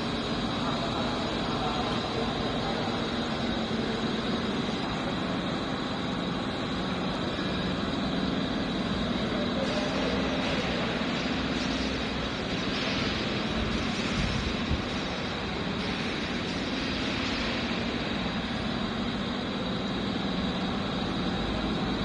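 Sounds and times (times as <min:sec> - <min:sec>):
boiler plant machinery drone: 0:00.0 - 0:22.0.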